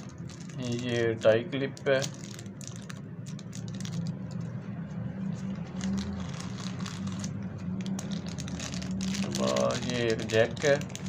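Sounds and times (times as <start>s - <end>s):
packaging rustling: 0.0s - 4.6s, 5.2s - 11.0s
steady low hum: 0.0s - 11.0s.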